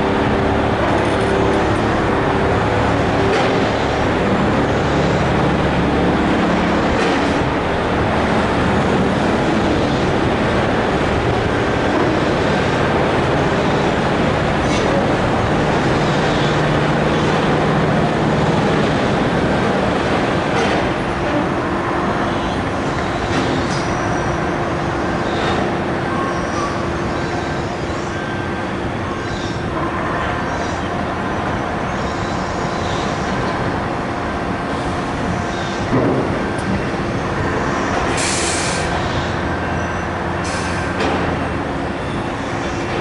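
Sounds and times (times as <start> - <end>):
heavy machinery rumbling: 0.0 - 43.0.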